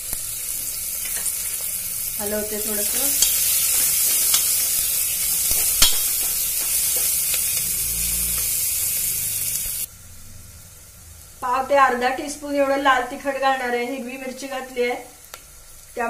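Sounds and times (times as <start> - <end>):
onion sizzling in oil: 0.0 - 16.0.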